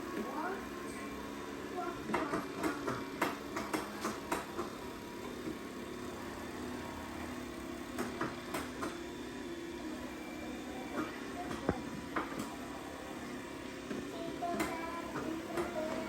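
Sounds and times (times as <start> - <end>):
robot vacuum humming: 0.0 - 16.0.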